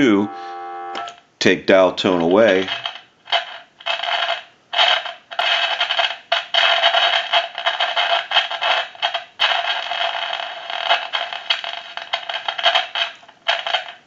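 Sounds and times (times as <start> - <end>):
telephone receiver crackling static: 2.1 - 14.0.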